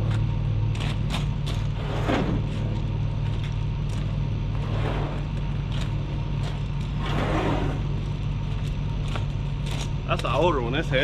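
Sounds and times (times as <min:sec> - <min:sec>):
combine engine drone: 0:00.0 - 0:11.0.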